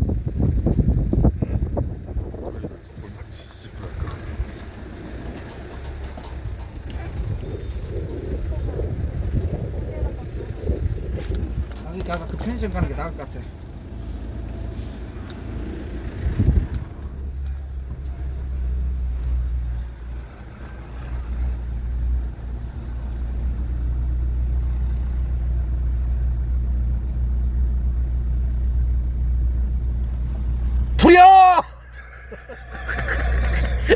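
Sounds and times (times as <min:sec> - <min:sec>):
car driving rumble: 0:00.0 - 0:33.9.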